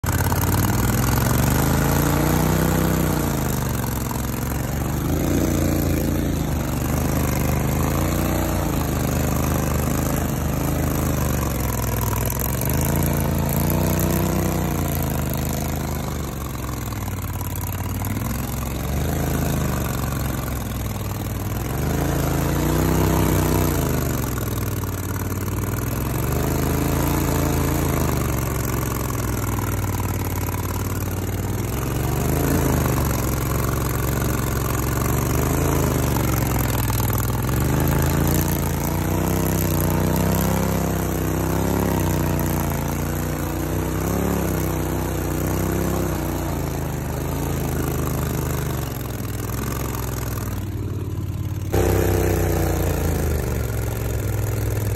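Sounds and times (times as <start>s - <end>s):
boat motor revving under load: 0.0s - 54.9s
propeller churning mud: 0.0s - 54.9s.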